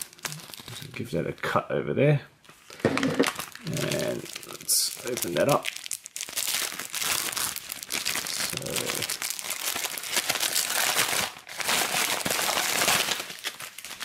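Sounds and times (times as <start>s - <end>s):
plastic satchel crinkling: 0.0s - 1.0s, 2.5s - 14.0s.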